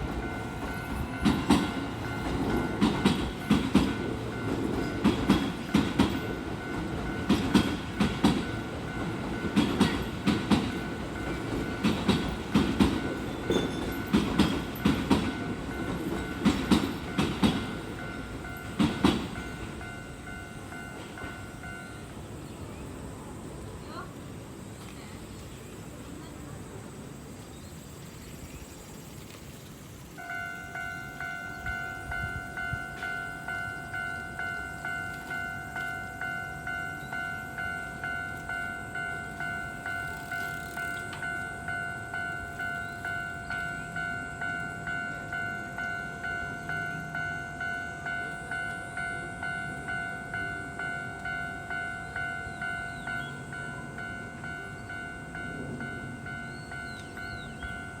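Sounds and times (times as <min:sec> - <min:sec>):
railroad crossing bell ringing: 0:00.0 - 0:24.0, 0:30.2 - 0:58.0.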